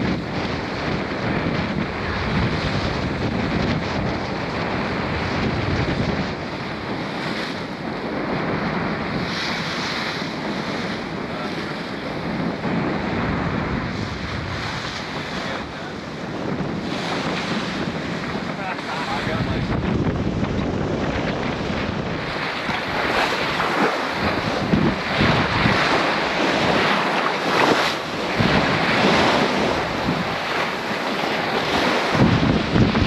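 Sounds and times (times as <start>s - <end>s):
sea water washing: 0.0s - 33.0s
wind buffeting microphone: 0.0s - 33.0s.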